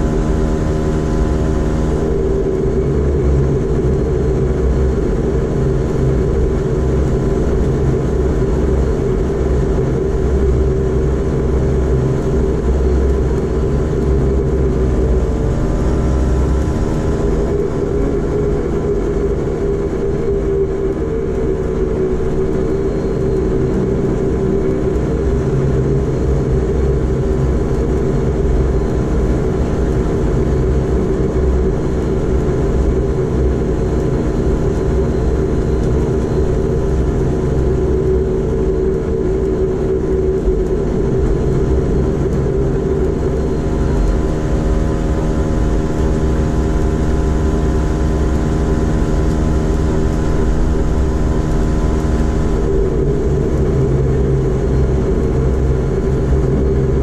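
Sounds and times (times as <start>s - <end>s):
turboprop engine drone: 0.0s - 57.0s.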